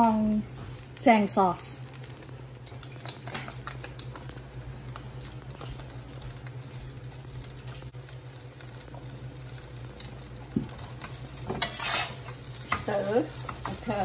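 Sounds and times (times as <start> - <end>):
rice crackling in a wok: 0.0 - 14.0.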